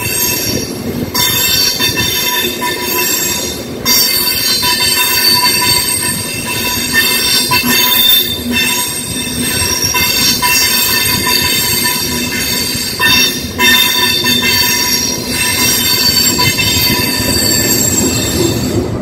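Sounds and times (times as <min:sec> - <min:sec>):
train wheels squealing: 0:00.0 - 0:18.9
train cars rumbling on rails: 0:00.0 - 0:19.0.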